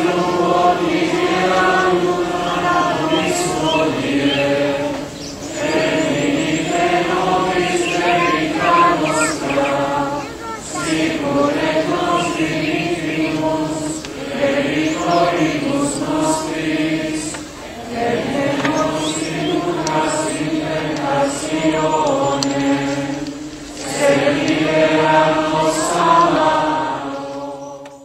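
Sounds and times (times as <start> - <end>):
choir chanting a hymn: 0.0 - 28.0.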